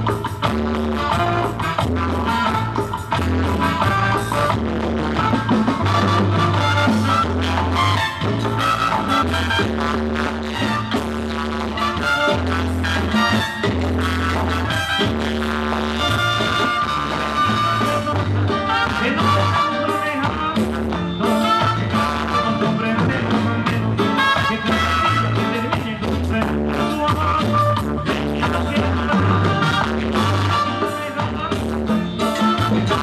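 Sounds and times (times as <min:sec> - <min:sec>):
saxophone: 0:00.0 - 0:33.0
steady drum beat: 0:00.0 - 0:33.0
walking bass line: 0:00.0 - 0:33.0.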